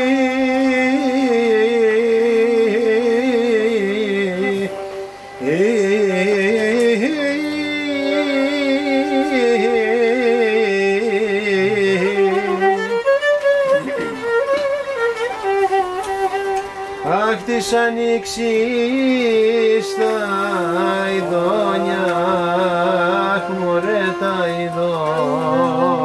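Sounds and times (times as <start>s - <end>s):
live folk music led by violin: 0.0s - 26.0s.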